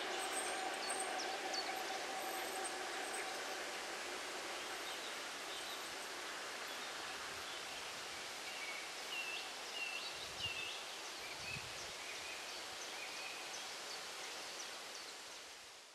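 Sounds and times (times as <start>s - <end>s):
wind rustling trees and grass: 0.0s - 15.9s.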